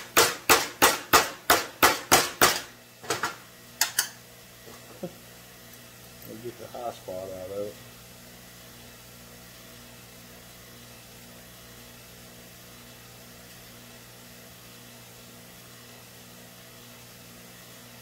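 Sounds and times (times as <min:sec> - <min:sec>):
low machine hum: 0:02.7 - 0:18.0.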